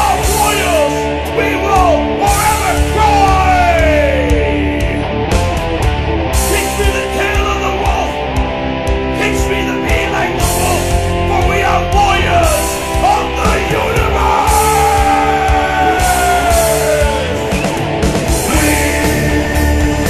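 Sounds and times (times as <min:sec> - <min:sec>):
man singing: 0:00.0 - 0:05.1, 0:06.4 - 0:08.2, 0:09.1 - 0:17.6, 0:18.3 - 0:20.0
drums: 0:00.0 - 0:20.0
electric guitars: 0:00.0 - 0:20.0
heavy metal song: 0:00.0 - 0:20.0.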